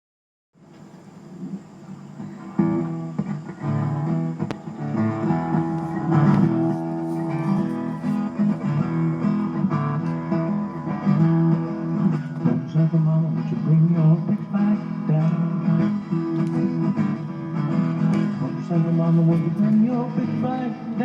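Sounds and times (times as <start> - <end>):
guitar chords: 2.1 - 21.0
bass line: 2.6 - 20.6.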